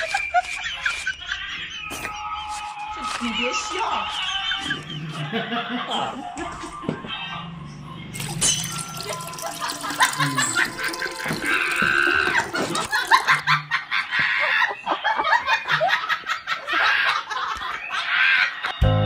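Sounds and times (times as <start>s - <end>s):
people laughing: 0.0s - 7.4s, 9.0s - 18.8s.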